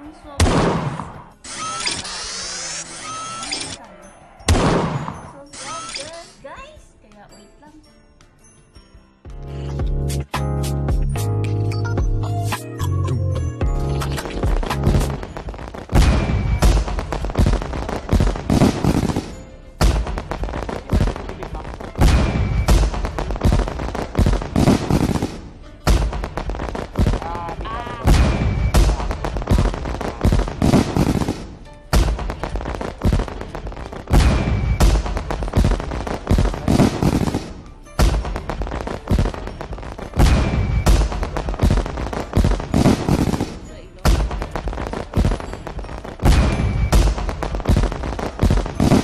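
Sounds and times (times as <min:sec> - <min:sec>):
fireworks bangs and crackles: 0:00.3 - 0:03.6, 0:04.5 - 0:05.8, 0:13.6 - 0:49.0.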